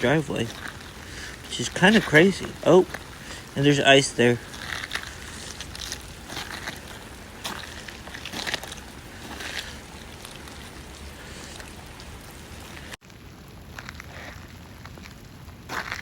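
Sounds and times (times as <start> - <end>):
footsteps crunching on slush: 0.0 - 13.0, 13.7 - 16.0
steady outdoor hiss: 0.0 - 16.0.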